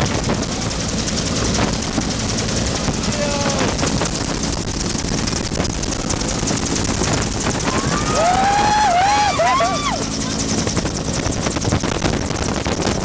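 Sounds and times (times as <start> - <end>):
helicopter rotor beating: 0.0 - 13.0
turbine engine hum: 0.0 - 13.0.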